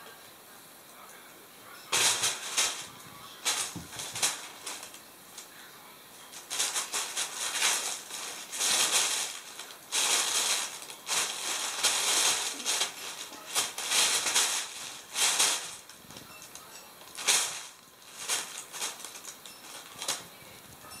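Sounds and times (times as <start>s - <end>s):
plastic bag crinkling: 1.9s - 5.6s, 6.2s - 21.0s.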